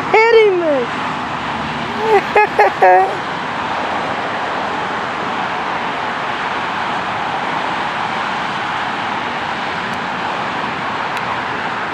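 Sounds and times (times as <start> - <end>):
distant vehicles rushing: 0.0 - 11.9.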